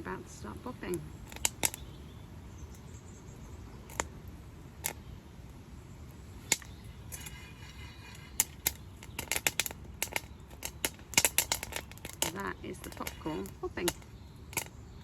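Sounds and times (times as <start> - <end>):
popcorn popping in a pan: 0.0 - 2.9, 3.7 - 15.0.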